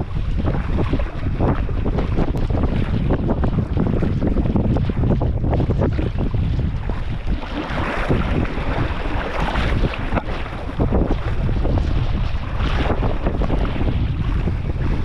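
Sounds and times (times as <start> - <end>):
water splashing around a boat: 0.0 - 15.0
wind buffeting microphone: 0.0 - 15.0.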